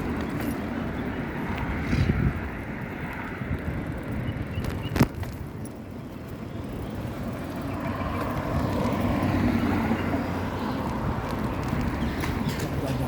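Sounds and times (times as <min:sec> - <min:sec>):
road traffic noise: 0:00.0 - 0:13.0
wind rumble while cycling: 0:00.0 - 0:13.0.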